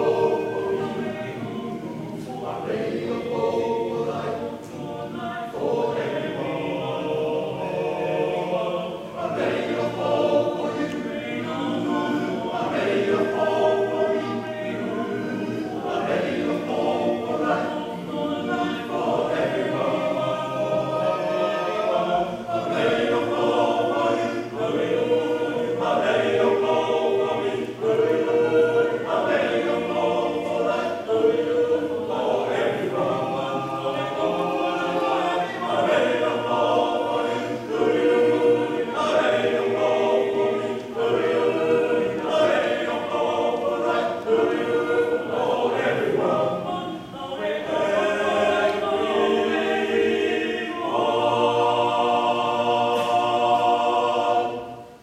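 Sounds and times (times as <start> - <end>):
male choir singing: 0.0 - 55.0.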